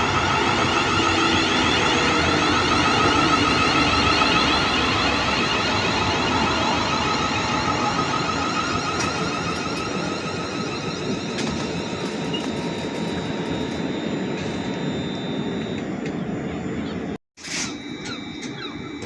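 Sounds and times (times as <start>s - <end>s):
train running past: 0.0s - 19.0s.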